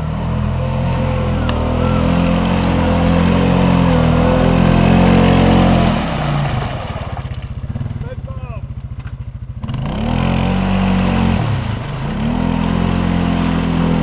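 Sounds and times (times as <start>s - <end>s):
muddy water splashing: 0.0s - 9.2s, 10.0s - 14.0s
quad engine revving: 0.0s - 14.0s.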